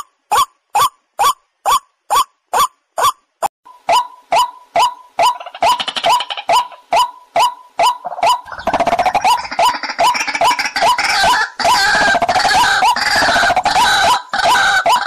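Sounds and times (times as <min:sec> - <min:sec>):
waterhens calling: 0:00.0 - 0:15.0.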